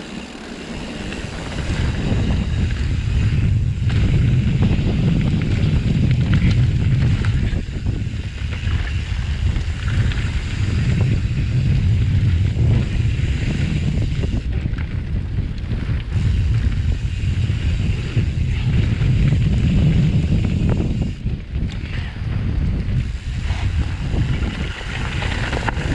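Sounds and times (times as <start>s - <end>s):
bike rattles and knocks: 0.0s - 25.9s
tyre noise on dirt: 0.0s - 25.9s
wind rumble on microphone: 0.0s - 25.9s.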